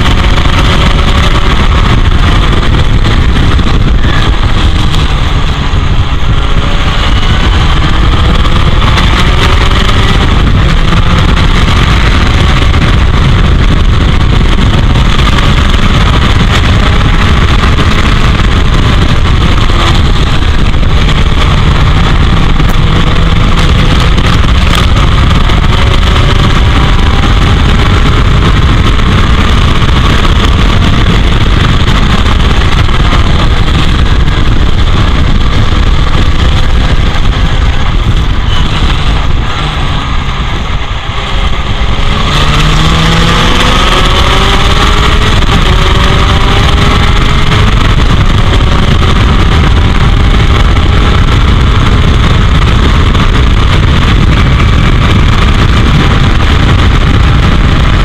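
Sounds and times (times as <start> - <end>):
race car engine accelerating: 0.0 - 58.0
wind buffeting on camera: 0.0 - 58.0.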